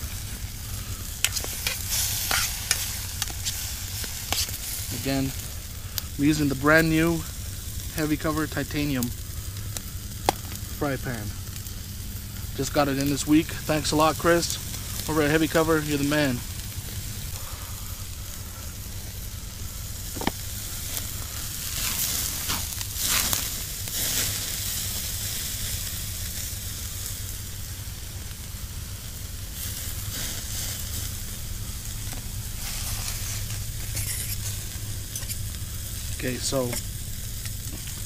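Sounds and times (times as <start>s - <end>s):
steak and mushrooms sizzling: 0.0s - 38.0s.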